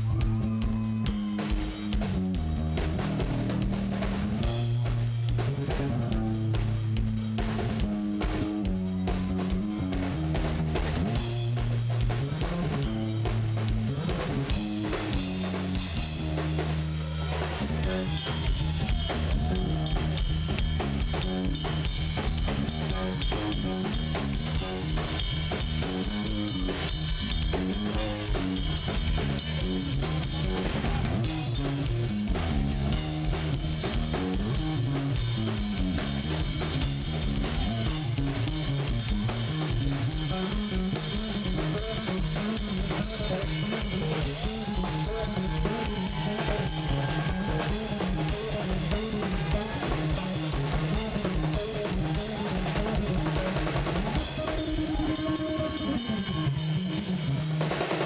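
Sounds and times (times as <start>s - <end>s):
drum kit playing: 0.0s - 58.0s
electric bass guitar line: 0.0s - 58.0s.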